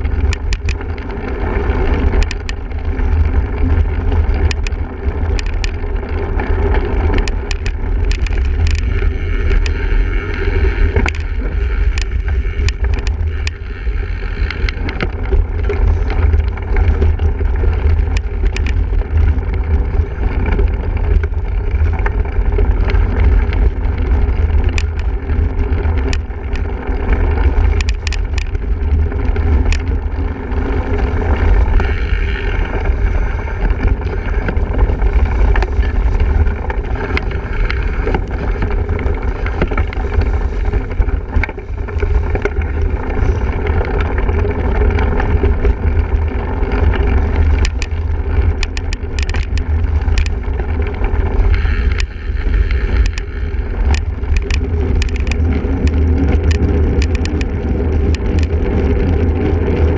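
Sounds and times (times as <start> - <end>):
bike rattling over bumps: 0.0 - 59.9
tyre and riding noise: 0.0 - 59.9
wind buffeting microphone: 0.0 - 59.9.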